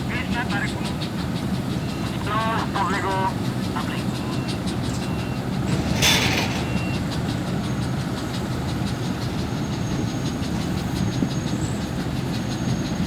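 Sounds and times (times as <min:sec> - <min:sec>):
ship engine rumbling: 0:00.0 - 0:13.0.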